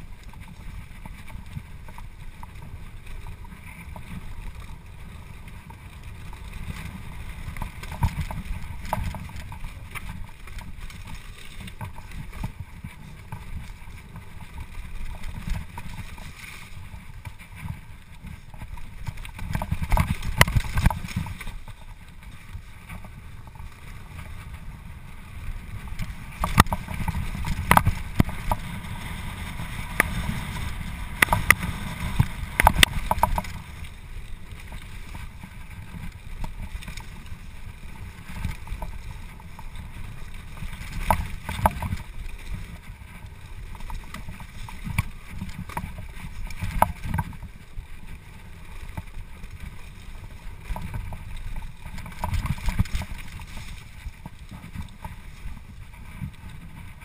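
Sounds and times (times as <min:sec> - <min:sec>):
bike clacking and rattling: 0:00.0 - 0:57.0
wind on microphone: 0:00.0 - 0:57.0.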